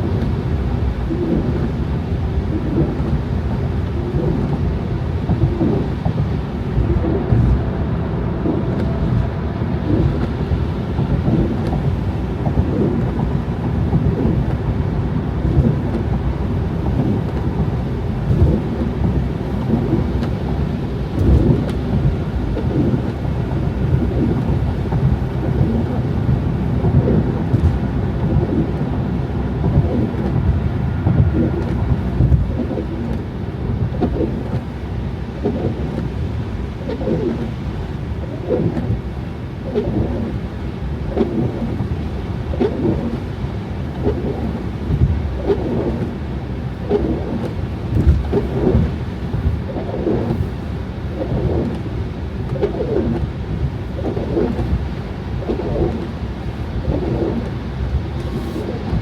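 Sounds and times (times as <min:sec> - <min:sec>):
car tyre and road noise: 0:00.0 - 0:59.0.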